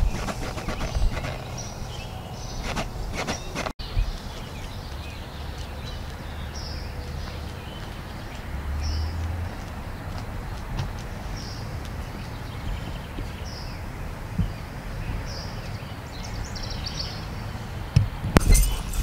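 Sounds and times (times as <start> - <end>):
small birds chirping: 0.0 - 17.7, 18.4 - 19.0.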